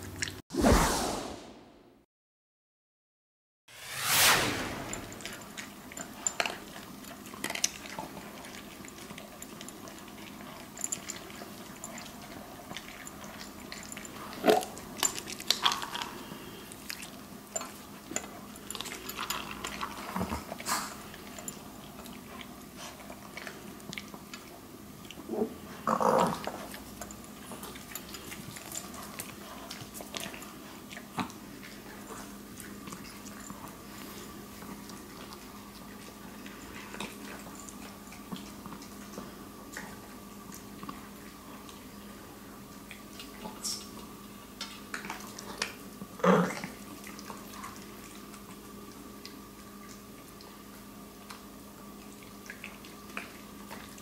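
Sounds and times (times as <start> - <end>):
dogs crunching dry kibble: 5.4 - 54.0.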